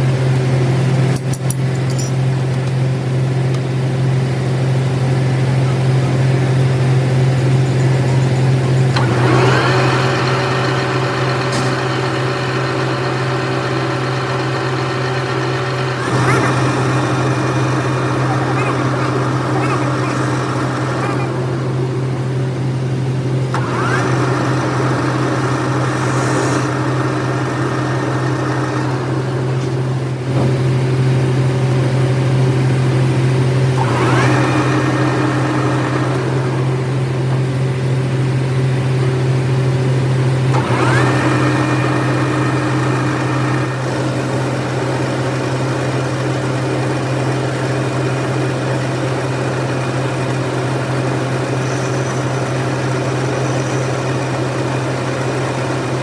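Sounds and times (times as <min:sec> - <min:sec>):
workshop machine humming: 0:00.0 - 0:56.0.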